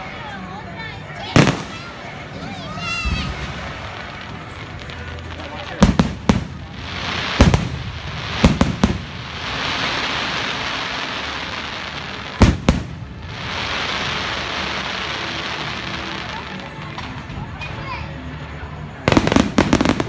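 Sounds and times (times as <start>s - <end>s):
fireworks bursting: 0.0s - 20.0s
steady hiss: 0.0s - 20.0s.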